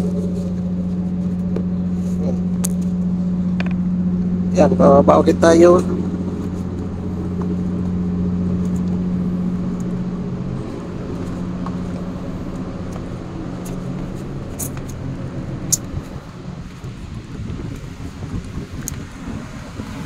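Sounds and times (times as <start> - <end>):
ship machinery humming: 0.0 - 20.0.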